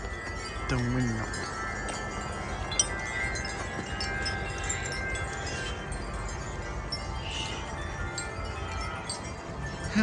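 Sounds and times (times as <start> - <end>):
low wind rumble: 0.0 - 10.0
wind chimes ringing: 0.0 - 10.0.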